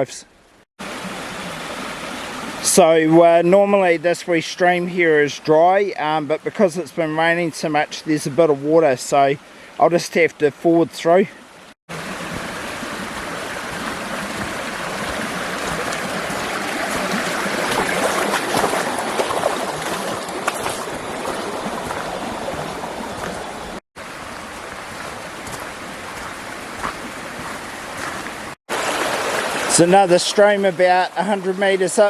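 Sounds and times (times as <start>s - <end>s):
stream running over its bed: 0.8s - 32.0s.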